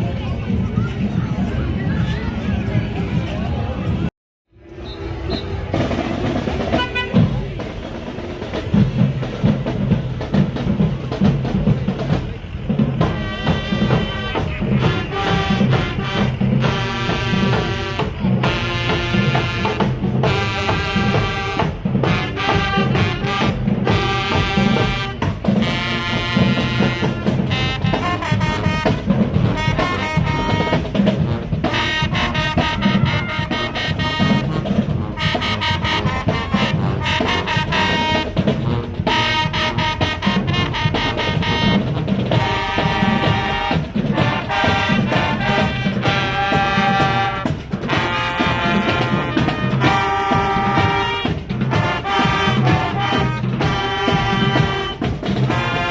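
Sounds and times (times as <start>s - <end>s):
marching drums: 0.0s - 4.1s, 4.8s - 55.9s
brass horns playing: 4.8s - 7.5s, 12.7s - 55.9s.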